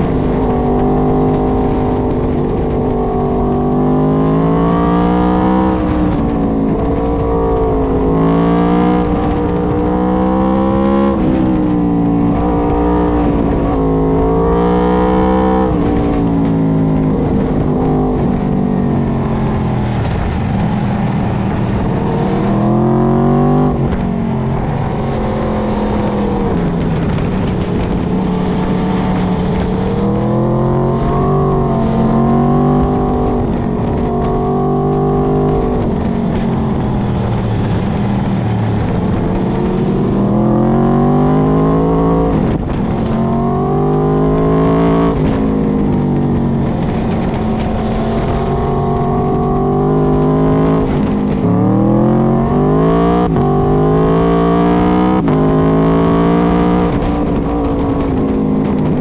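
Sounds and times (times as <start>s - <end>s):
motorcycle engine revving: 0.0s - 59.0s
steady low rush: 0.0s - 59.0s.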